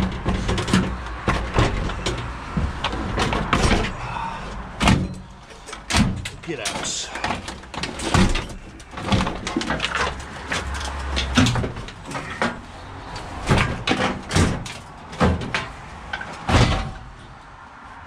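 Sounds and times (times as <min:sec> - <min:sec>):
metal knocks and clanks: 0:00.0 - 0:17.4.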